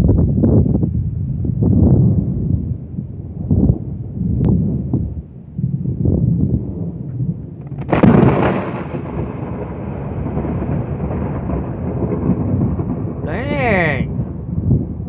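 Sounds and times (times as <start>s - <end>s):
thunderclap with rumble: 0.0s - 15.0s.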